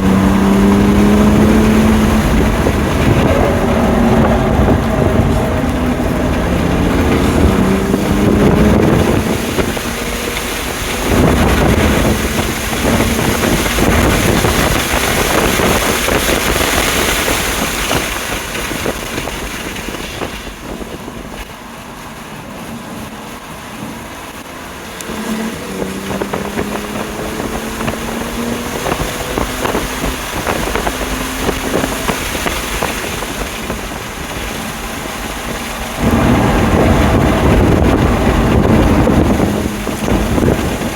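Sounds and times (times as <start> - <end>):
car engine accelerating: 0.0 - 40.9
wind noise: 0.0 - 40.9.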